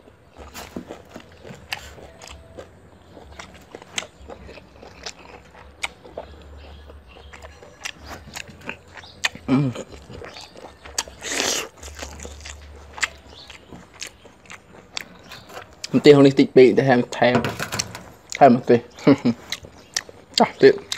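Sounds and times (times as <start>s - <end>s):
chewing with wet mouth clicks: 0.0s - 16.1s, 18.2s - 20.9s
faint low hum: 0.0s - 20.9s.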